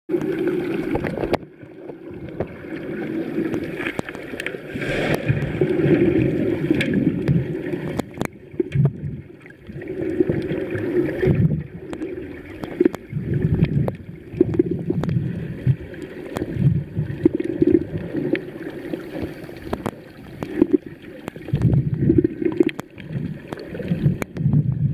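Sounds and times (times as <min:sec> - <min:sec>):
muffled water sloshing underwater: 0:00.1 - 0:24.9.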